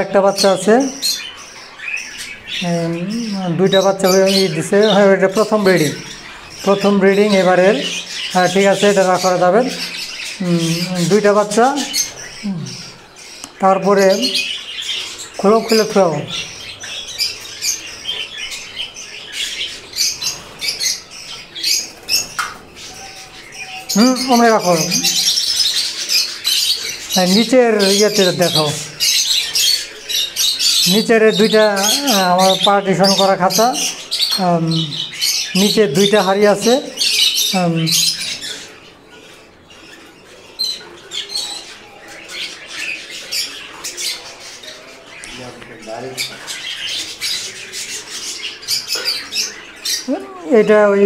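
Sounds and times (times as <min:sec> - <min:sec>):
budgerigars chirping and squeaking: 0:00.0 - 0:51.0.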